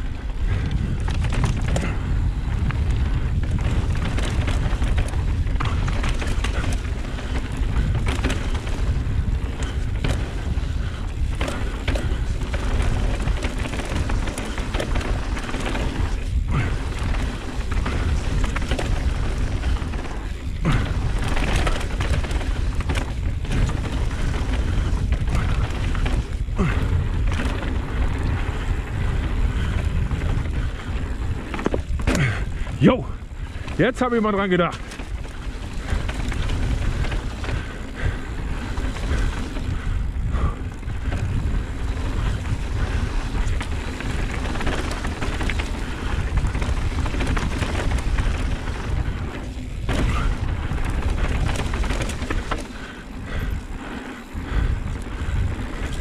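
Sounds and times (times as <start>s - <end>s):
bike rattling over bumps: 0.0s - 56.0s
bike tyres rolling: 0.0s - 56.0s
wind rumble on microphone: 0.0s - 56.0s.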